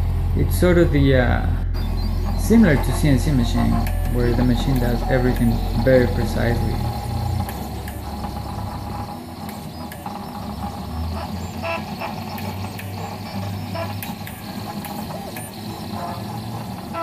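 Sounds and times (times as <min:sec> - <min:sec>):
short pitched whirring: 0:00.0 - 0:17.0
printer motor hum: 0:01.7 - 0:17.0.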